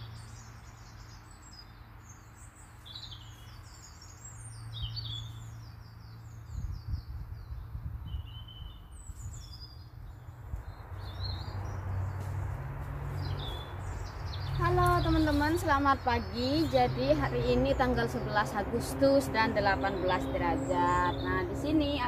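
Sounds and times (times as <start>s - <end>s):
small birds singing: 0.0s - 22.0s.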